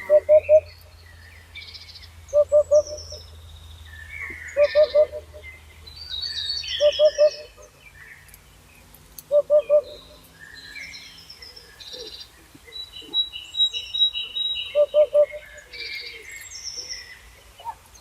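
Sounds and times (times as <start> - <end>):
small birds chirping and trilling: 0.0 - 18.0.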